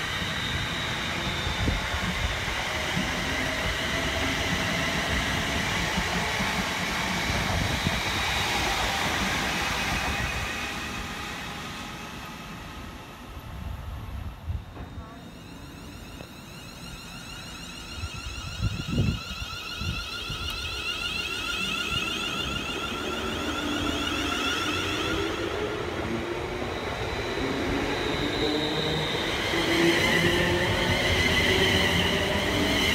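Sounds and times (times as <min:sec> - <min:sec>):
electric train running past: 0:00.0 - 0:32.9
high whine: 0:00.0 - 0:32.9.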